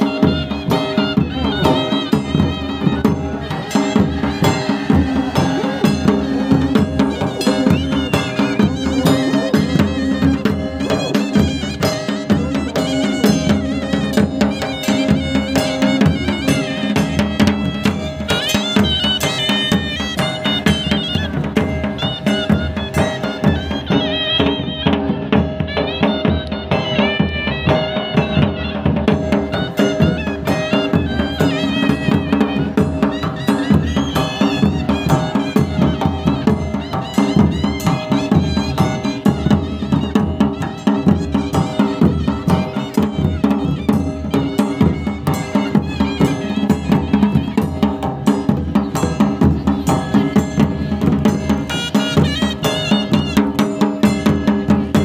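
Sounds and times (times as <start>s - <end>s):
drums beating steady rhythm: 0.0s - 55.0s
wind instruments melody: 0.0s - 55.0s.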